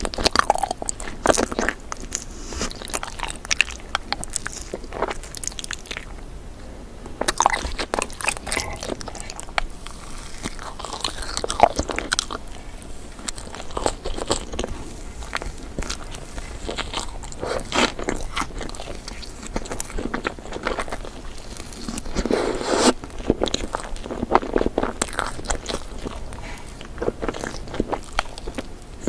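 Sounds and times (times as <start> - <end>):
person crunching dessert: 0.0 - 6.2, 7.2 - 29.0
chewing: 0.0 - 6.3, 7.1 - 29.0.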